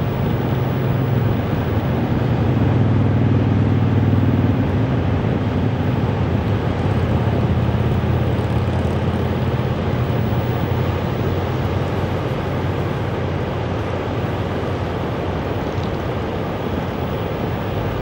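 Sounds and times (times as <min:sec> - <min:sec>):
steady traffic rushing noise: 0:00.0 - 0:18.0
vehicle engine hum: 0:00.0 - 0:18.0.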